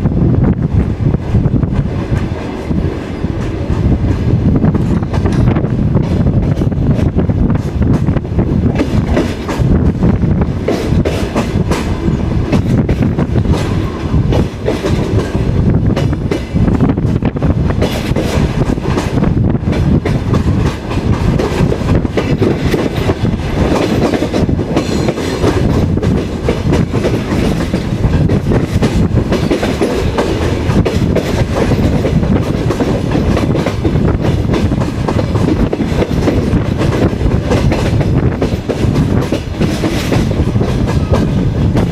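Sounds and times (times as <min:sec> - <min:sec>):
train wheels rumbling on track: 0:00.0 - 0:41.9
wind buffeting microphone: 0:00.0 - 0:41.9.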